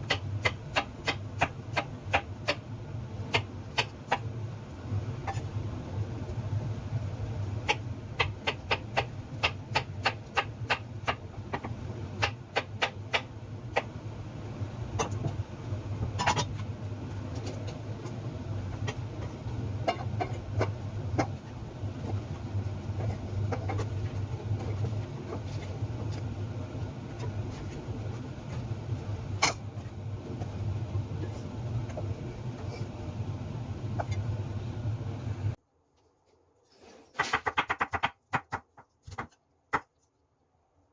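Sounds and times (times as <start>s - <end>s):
steady low hum: 0.0s - 35.6s.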